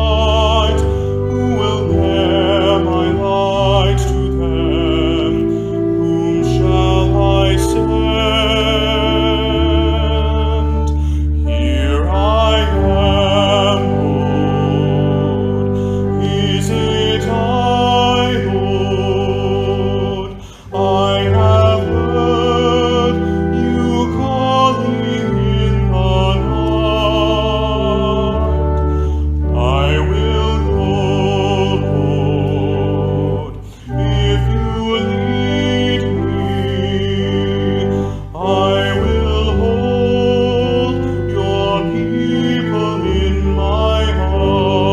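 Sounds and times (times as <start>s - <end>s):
person singing with vibrato: 0.0s - 44.9s
sustained low accompaniment: 0.0s - 44.9s.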